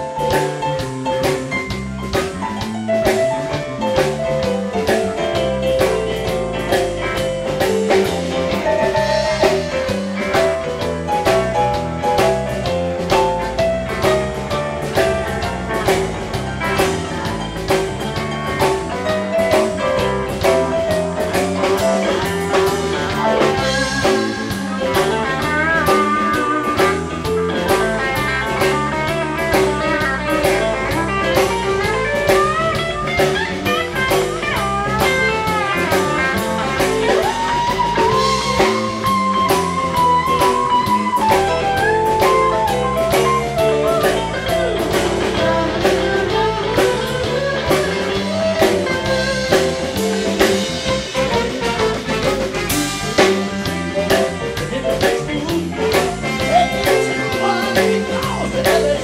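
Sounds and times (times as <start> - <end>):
drum kit beat: 0.0 - 59.0
live blues band playing: 0.0 - 59.0.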